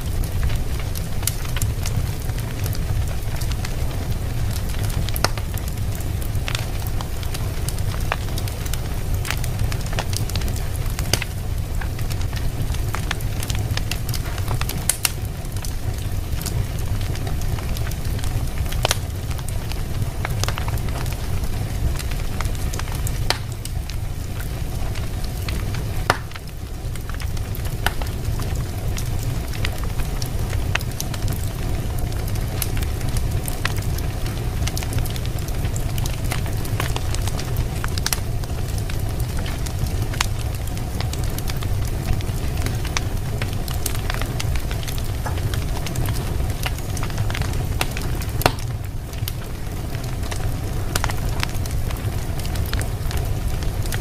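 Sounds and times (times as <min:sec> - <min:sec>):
fire crackling in fireplace: 0:00.0 - 0:54.0.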